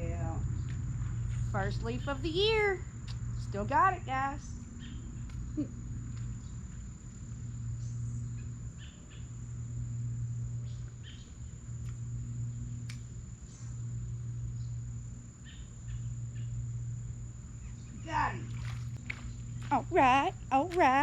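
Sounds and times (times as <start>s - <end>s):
insects trilling: 0.0s - 21.0s
low hum: 0.0s - 21.0s.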